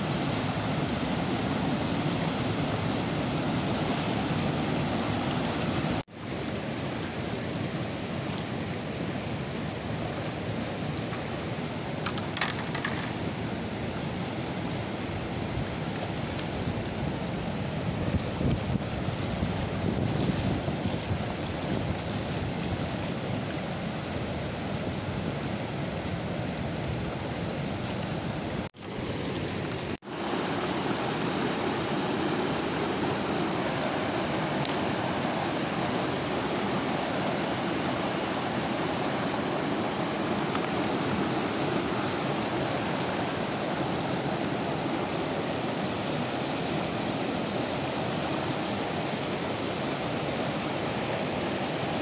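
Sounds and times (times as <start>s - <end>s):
river rushing over boulders: 0.0s - 52.0s.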